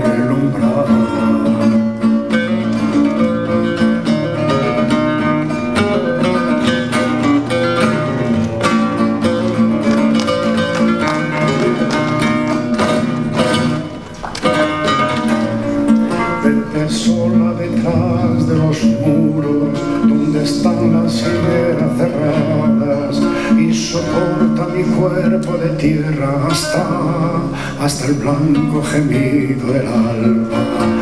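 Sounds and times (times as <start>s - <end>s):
plucked acoustic guitar melody: 0.0s - 31.0s
strummed acoustic guitar chords: 0.0s - 31.0s.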